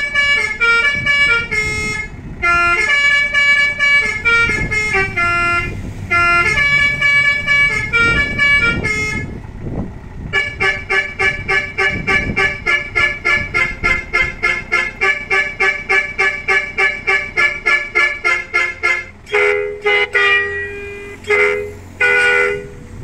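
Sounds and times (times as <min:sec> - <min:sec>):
horn chord fast toots: 0:00.0 - 0:09.3, 0:10.4 - 0:22.8
musical horn playing melody: 0:00.0 - 0:09.4, 0:10.3 - 0:22.9.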